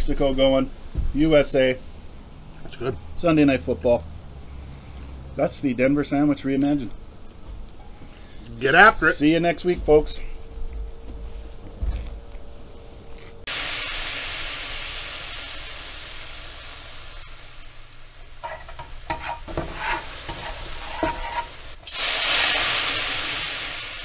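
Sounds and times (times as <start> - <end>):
food sizzling in frying: 0.0 - 11.4, 12.4 - 24.0.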